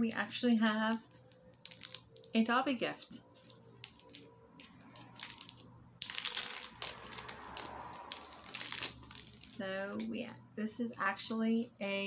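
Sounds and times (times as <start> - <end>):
plastic packet crinkling: 0.0 - 10.1.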